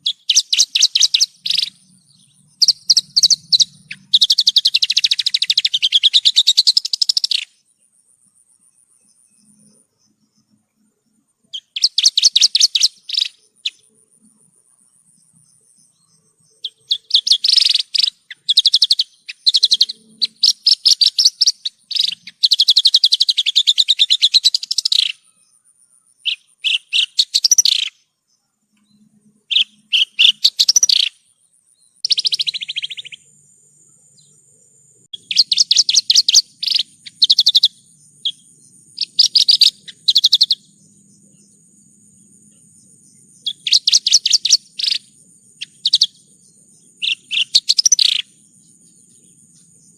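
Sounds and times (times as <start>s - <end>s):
bush lark trilling song: 0.0s - 49.9s.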